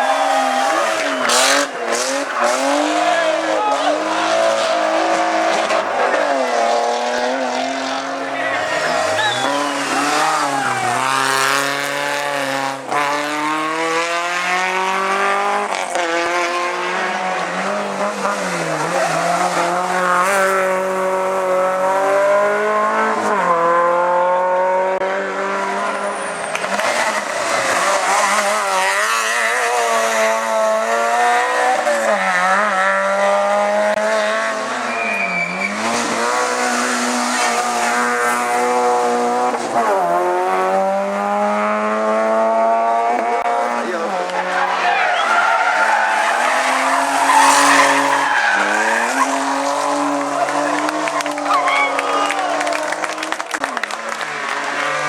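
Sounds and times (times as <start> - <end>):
race car engine revving hard: 0.0 - 55.0.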